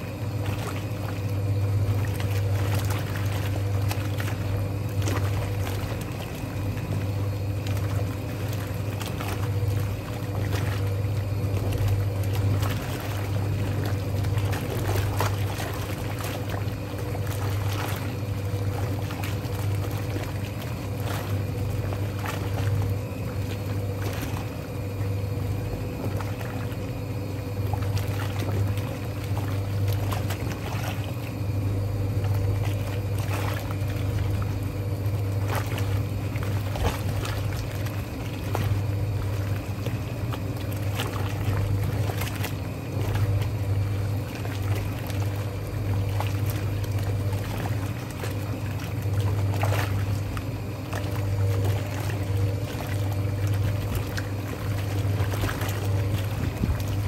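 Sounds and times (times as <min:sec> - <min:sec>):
washing machine motor hum: 0:00.0 - 0:57.0
water sloshing and splashing: 0:00.0 - 0:57.0.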